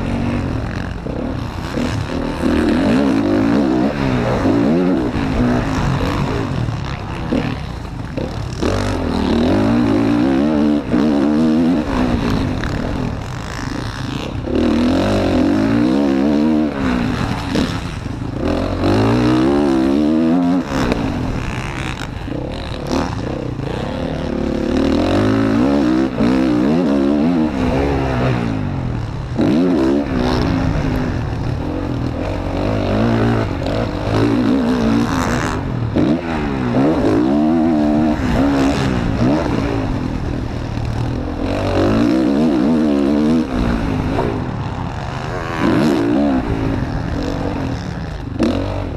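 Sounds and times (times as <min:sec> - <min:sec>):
motocross bike engine revving: 0:00.0 - 0:48.9.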